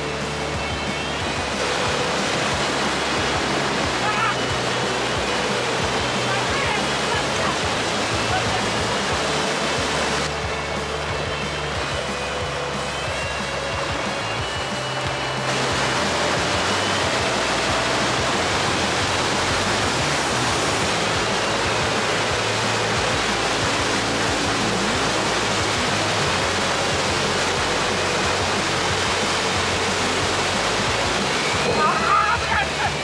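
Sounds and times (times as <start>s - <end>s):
river water rushing over weir: 0.0s - 33.0s.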